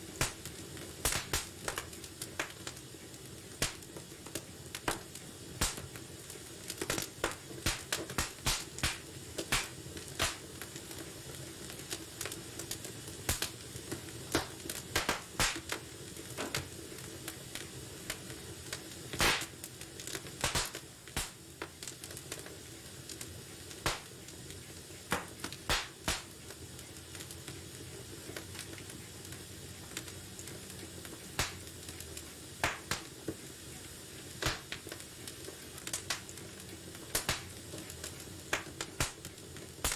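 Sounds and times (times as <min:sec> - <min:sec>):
flames hissing: 0:00.0 - 0:39.9
wood fire crackling and popping: 0:00.0 - 0:39.9.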